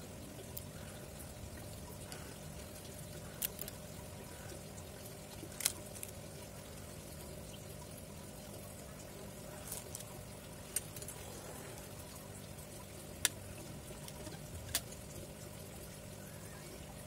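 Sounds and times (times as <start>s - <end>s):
faint background hum and hiss: 0.0s - 17.0s.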